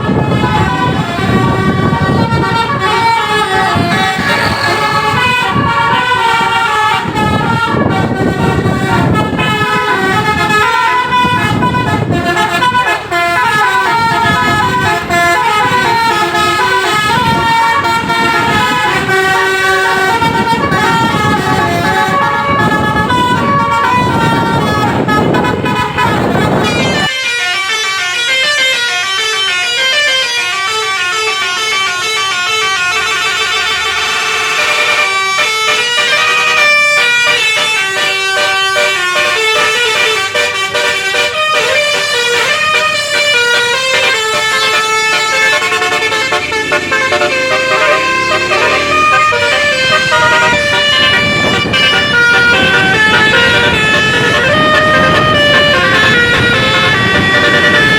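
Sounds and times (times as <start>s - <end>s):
musical air horn tune: 0.0s - 57.9s.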